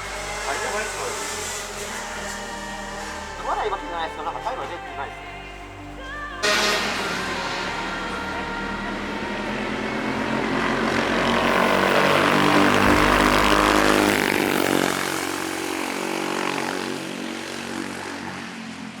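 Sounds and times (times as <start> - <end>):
kart engine passing by: 0.0 - 19.0.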